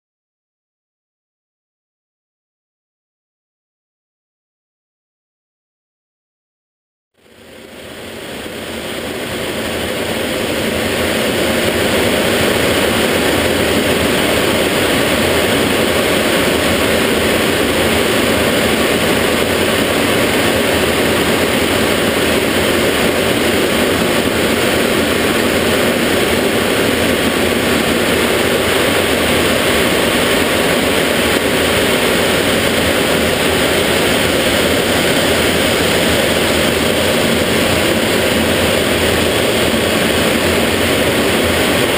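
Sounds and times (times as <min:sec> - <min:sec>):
jet engine cockpit rush: 0:07.2 - 0:41.9.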